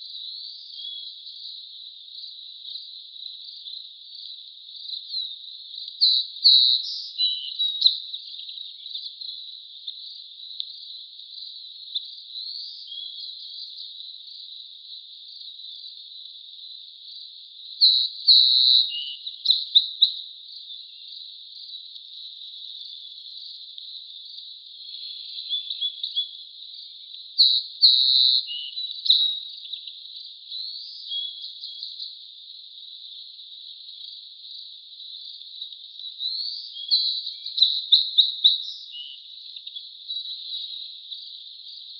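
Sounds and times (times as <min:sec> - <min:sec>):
crickets chirping chorus: 0:00.0 - 0:41.9.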